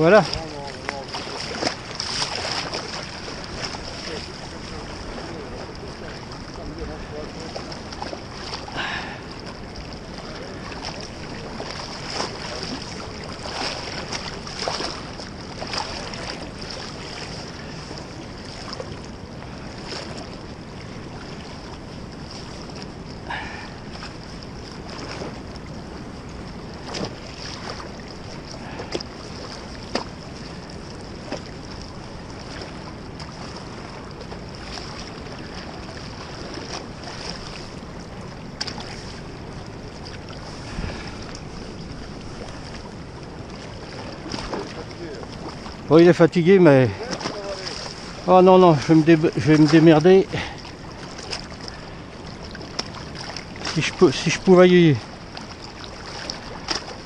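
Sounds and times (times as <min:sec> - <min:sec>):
wind on microphone: 0:00.0 - 0:45.9
fast river rushing: 0:00.0 - 0:57.0.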